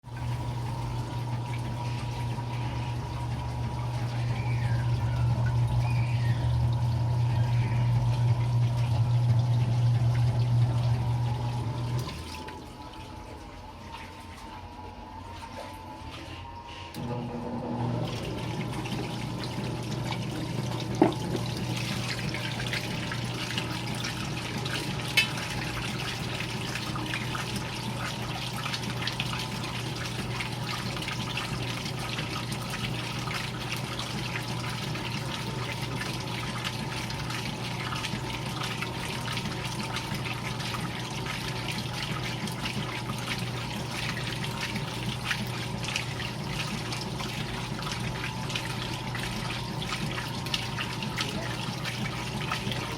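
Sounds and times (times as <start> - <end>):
low electrical hum: 0.0 - 52.9
washing machine water swishing: 0.0 - 52.9.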